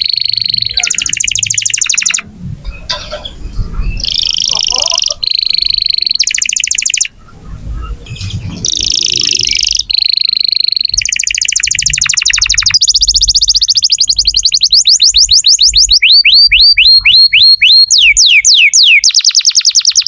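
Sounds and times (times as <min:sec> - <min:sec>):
canary singing in trills: 0:00.0 - 0:20.0.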